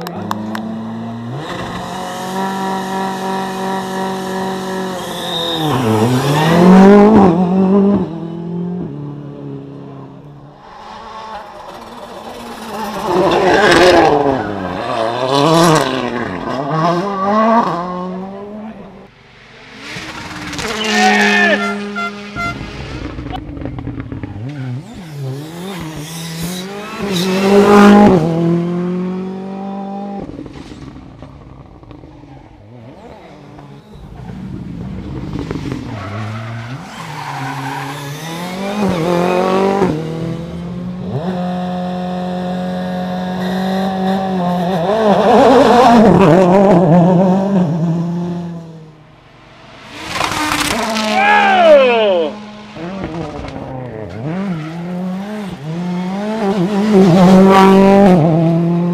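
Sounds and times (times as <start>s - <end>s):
rally cars passing at speed: 0.0s - 58.9s.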